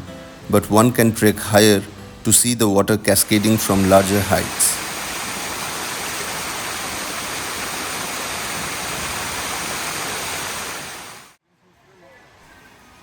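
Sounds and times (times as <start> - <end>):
waterfall rushing: 0.2 - 11.4.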